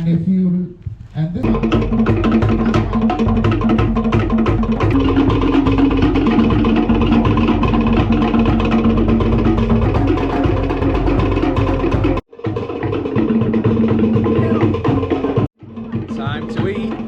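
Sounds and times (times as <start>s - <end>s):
music with fast percussion: 1.4s - 17.0s.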